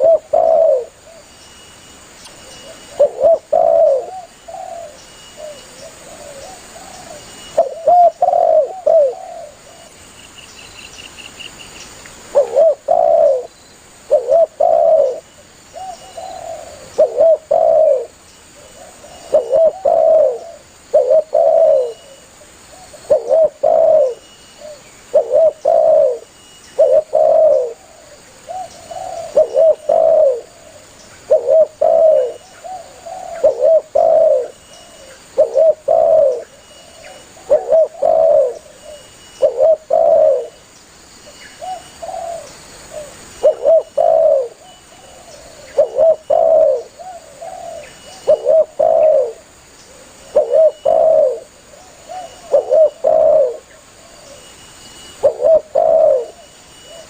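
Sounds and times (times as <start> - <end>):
dove cooing: 0.0 - 1.3, 2.4 - 10.0, 12.3 - 40.6, 41.6 - 54.5, 55.1 - 57.0
faint high bird trill: 0.0 - 57.0.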